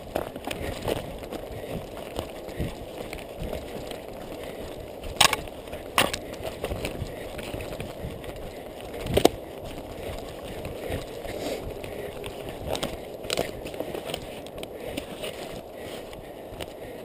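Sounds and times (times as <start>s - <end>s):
running footsteps: 0.0s - 17.0s
rustling through undergrowth: 0.0s - 17.0s.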